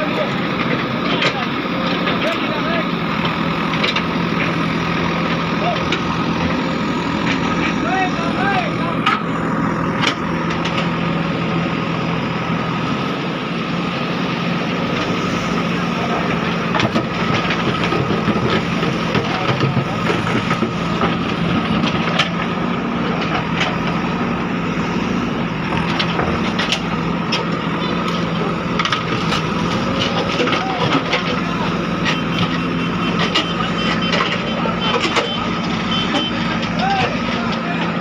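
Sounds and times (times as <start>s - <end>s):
diesel engines running: 0.0s - 38.0s.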